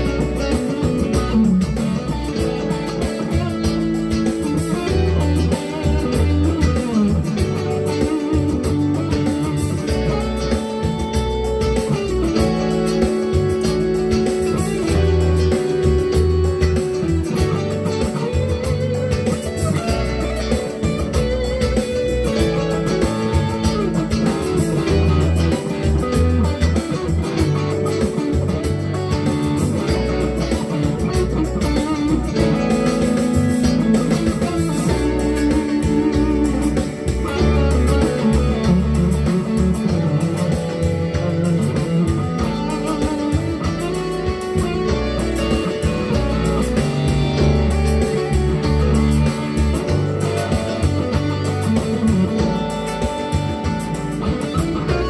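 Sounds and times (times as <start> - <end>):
bass and drums backing track: 0.0 - 55.0
electric guitar playing funk groove: 0.0 - 55.0.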